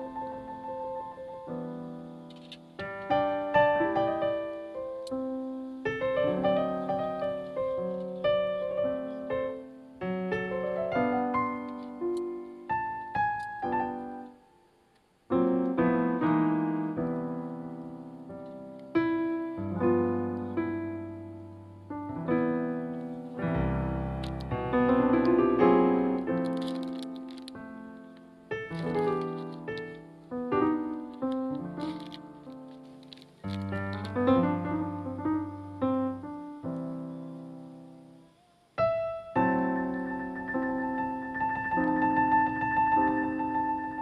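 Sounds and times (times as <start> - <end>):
piano music: 0.0 - 14.6, 15.3 - 38.2, 38.8 - 44.0.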